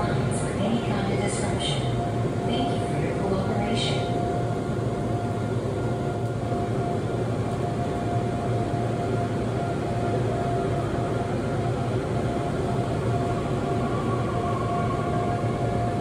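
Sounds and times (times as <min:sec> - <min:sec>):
subway train rumble: 0:00.0 - 0:16.0.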